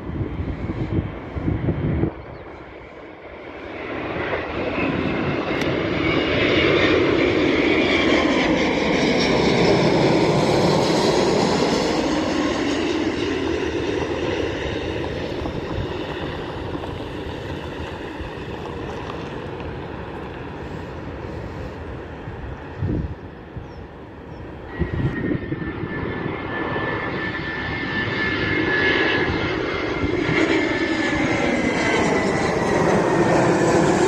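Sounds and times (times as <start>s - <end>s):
jet aircraft passing overhead: 0.0s - 34.0s.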